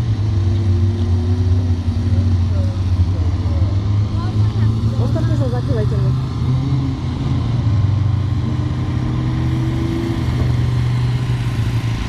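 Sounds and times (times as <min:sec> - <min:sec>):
race car engine droning: 0:00.0 - 0:12.0.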